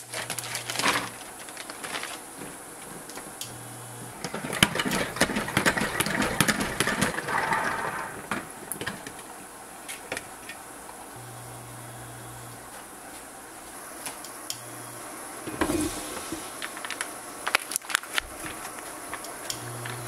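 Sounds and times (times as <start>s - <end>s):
low steady hum: 0.0s - 17.5s, 18.2s - 20.0s.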